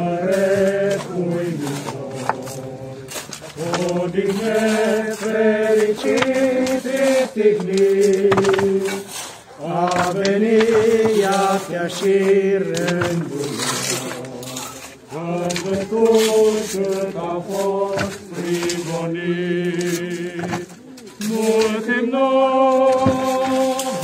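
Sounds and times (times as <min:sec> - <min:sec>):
voices singing a slow hymn: 0:00.0 - 0:24.0.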